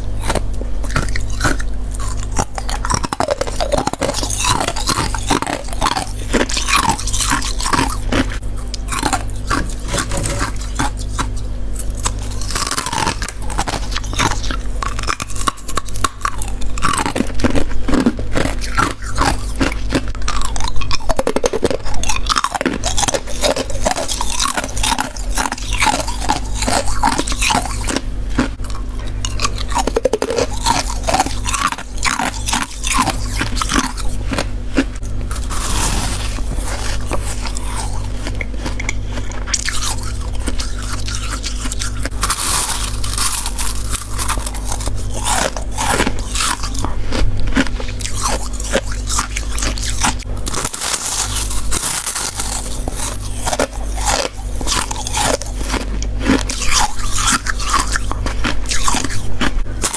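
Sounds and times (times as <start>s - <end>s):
crunching of chewed frost: 0.0s - 59.9s
steady low hum: 0.0s - 59.9s.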